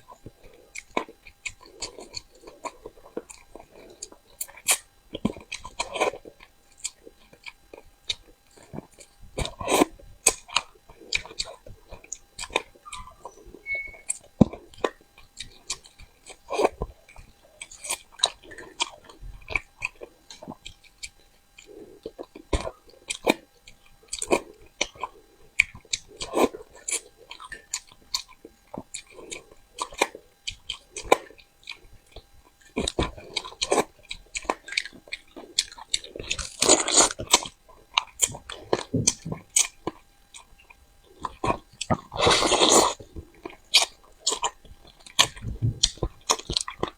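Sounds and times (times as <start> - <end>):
person chewing fish: 0.0 - 46.9.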